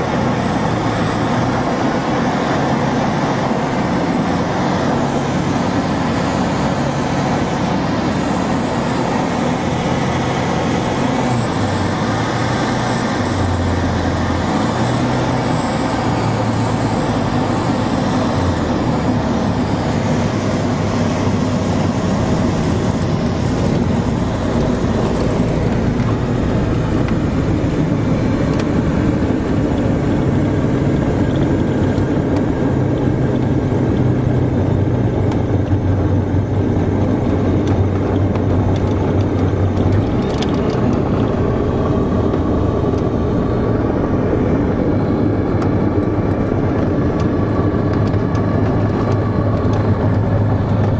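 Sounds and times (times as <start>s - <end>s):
airflow noise: 0.0s - 50.9s
light aircraft engine and propeller: 0.0s - 50.9s.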